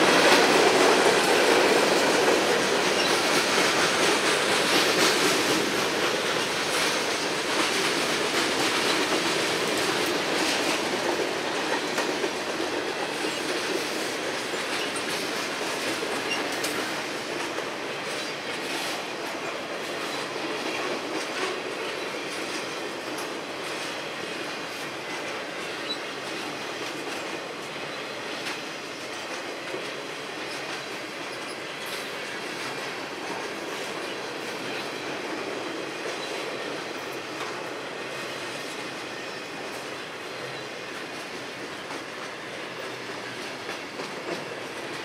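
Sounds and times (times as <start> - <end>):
rumble of train wheels on rail: 0.0 - 45.0.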